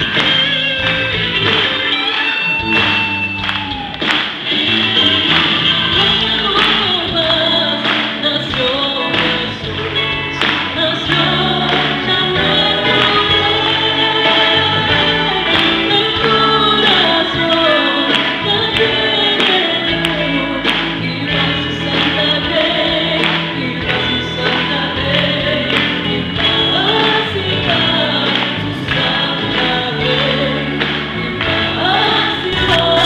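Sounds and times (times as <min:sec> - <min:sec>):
bass: 0:00.0 - 0:33.0
gospel band music: 0:00.0 - 0:33.0
voices singing together: 0:04.4 - 0:33.0.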